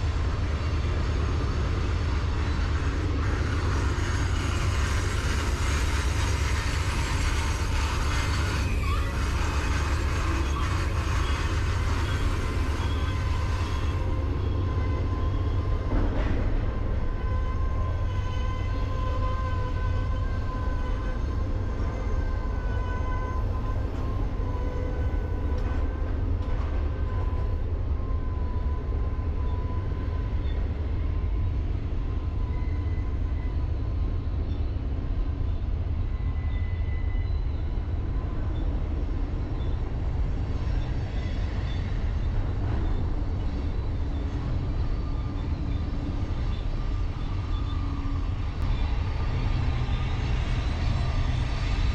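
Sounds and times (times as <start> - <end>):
freight train rumbling on rails: 0.0 - 51.9.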